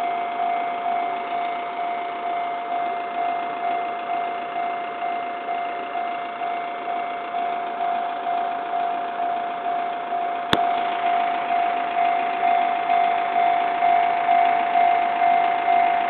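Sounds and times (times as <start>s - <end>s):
level crossing warning bell ringing: 0.0s - 16.0s.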